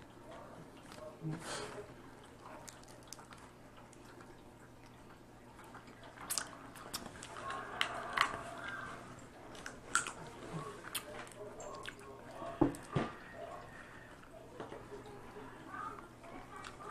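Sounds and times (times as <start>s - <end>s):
wet squishing and chewing: 0.0s - 15.1s, 15.8s - 16.9s.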